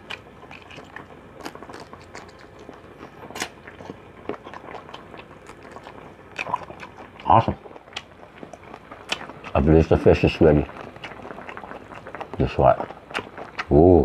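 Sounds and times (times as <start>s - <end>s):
person chewing with wet smacks: 0.0s - 13.8s.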